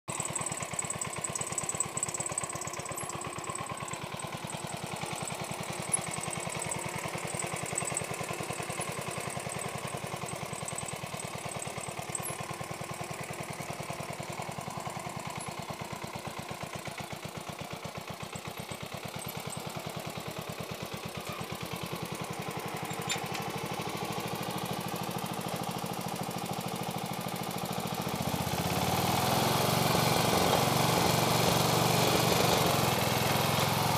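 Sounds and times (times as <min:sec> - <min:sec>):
garden tractor engine running: 0:00.0 - 0:33.9.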